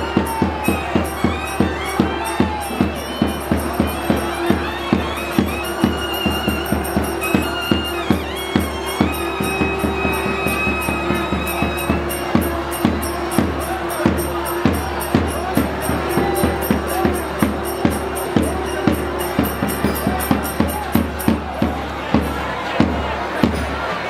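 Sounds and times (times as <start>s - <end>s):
rapid drum strokes: 0.0s - 23.9s.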